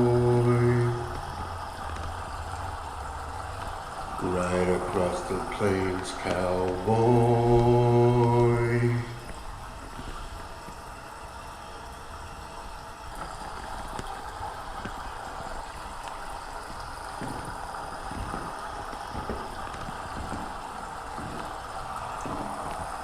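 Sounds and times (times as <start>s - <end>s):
tyres hissing on wet road: 0.0s - 23.0s.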